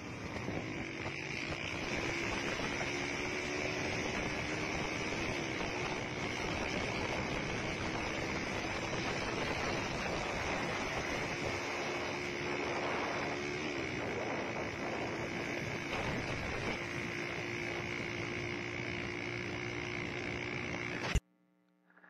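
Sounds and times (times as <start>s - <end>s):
motorcycle engine hum: 0.0s - 21.2s
wind rush and road noise: 0.0s - 21.2s.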